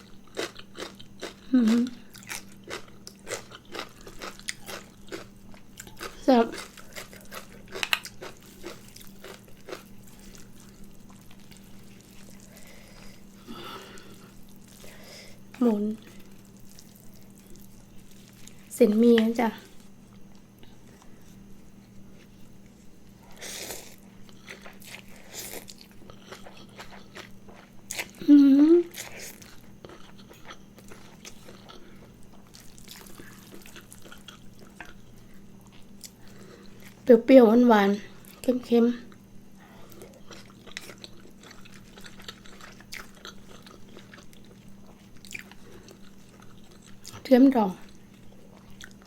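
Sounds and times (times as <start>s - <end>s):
person chewing crunchy noodles: 0.0s - 18.7s, 19.8s - 28.2s, 28.8s - 37.1s, 39.1s - 49.0s.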